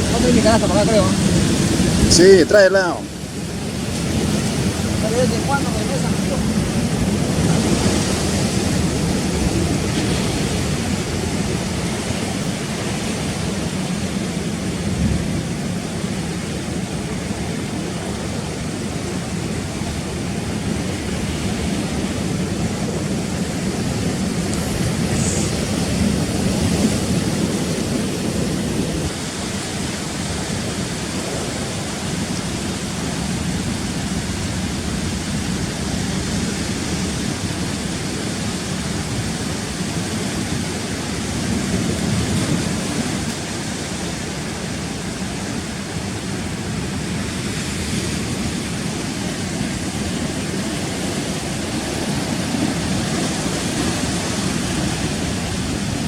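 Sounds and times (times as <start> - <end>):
surf breaking against rocks: 0.0 - 56.0.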